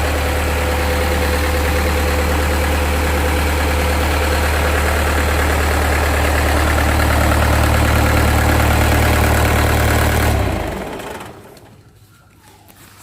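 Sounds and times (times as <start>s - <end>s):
diesel engine idling: 0.0s - 11.8s
engine running down: 0.0s - 11.8s.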